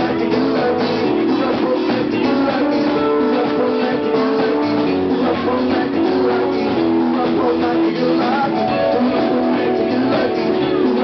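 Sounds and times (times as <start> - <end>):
drum kit: 0.0 - 11.0
live band with guitar: 0.0 - 11.0.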